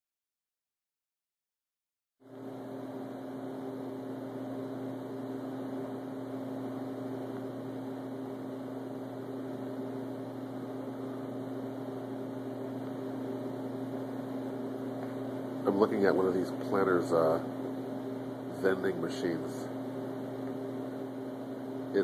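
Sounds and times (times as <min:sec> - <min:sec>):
electrical hum: 0:02.2 - 0:22.0.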